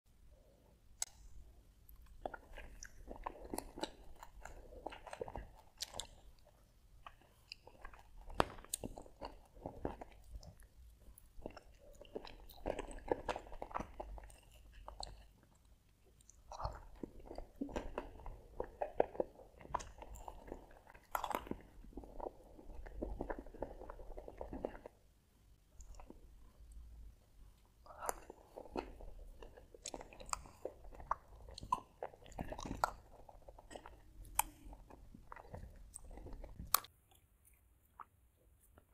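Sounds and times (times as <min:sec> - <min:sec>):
wet chewing sounds: 0:00.4 - 0:38.9.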